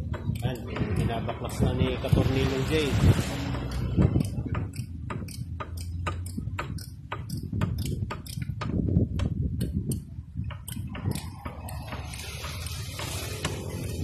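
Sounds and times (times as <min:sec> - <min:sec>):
ratchet wrench clicking: 0:00.0 - 0:02.2, 0:03.5 - 0:14.0
low rumble: 0:00.0 - 0:14.0.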